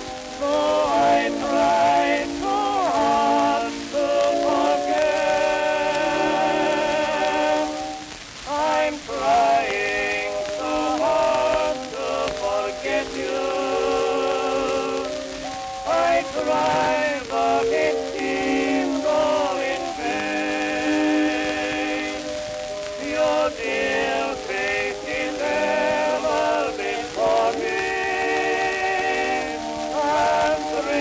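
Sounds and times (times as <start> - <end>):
record surface crackle and hiss: 0.0 - 31.0
male duet with orchestra: 0.4 - 7.9, 8.5 - 15.2, 15.8 - 22.4, 23.0 - 31.0.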